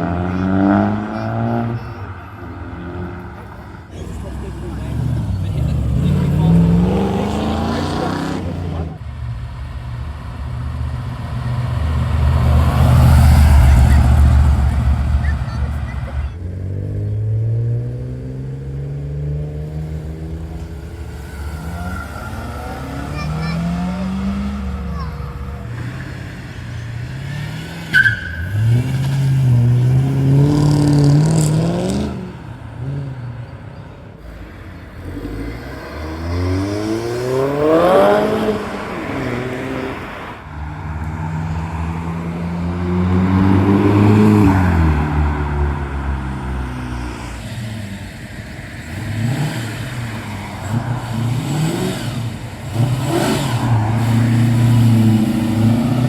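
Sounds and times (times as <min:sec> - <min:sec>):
car accelerating hard: 0:00.0 - 0:56.0
cars pulling away: 0:00.0 - 0:56.0.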